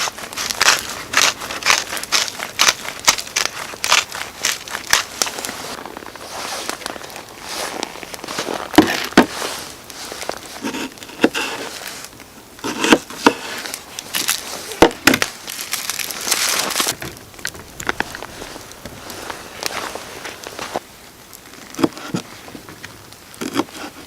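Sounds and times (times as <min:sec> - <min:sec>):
crinkling and rustling: 0:00.0 - 0:24.0.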